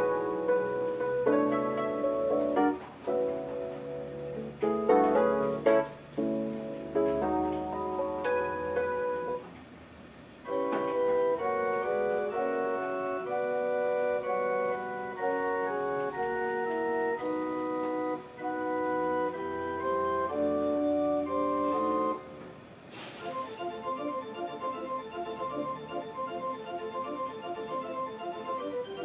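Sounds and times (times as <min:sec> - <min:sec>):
electronic keyboard organ tune: 0:00.0 - 0:09.5, 0:10.4 - 0:22.6, 0:23.2 - 0:29.0.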